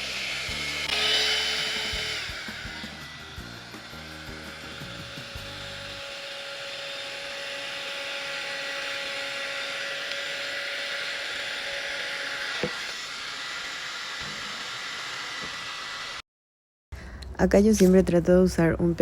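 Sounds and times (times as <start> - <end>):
hair dryer blowing hiss: 0.0 - 16.2.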